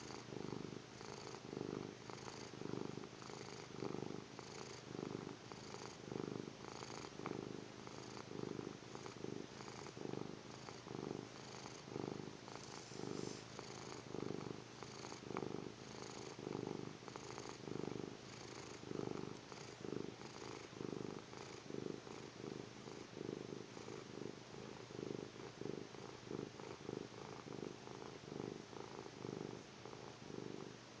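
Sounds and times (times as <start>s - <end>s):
cat snoring: 0.0s - 30.8s.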